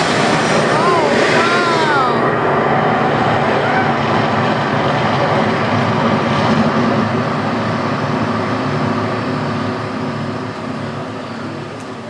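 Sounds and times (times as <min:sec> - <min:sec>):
loud steady roar: 0:00.0 - 0:12.0.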